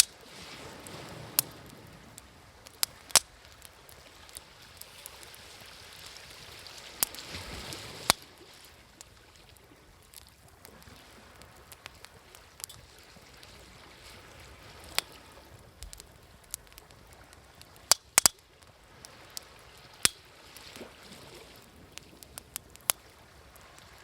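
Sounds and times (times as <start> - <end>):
bonfire crackling and popping: 0.0 - 24.0
waves washing in: 0.0 - 24.0.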